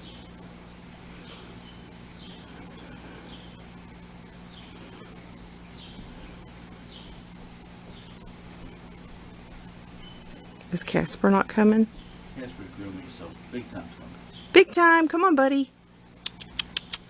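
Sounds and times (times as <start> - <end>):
faint low hum: 0.0 - 17.0
insects trilling: 0.0 - 17.0
short insect chirps: 0.0 - 17.0.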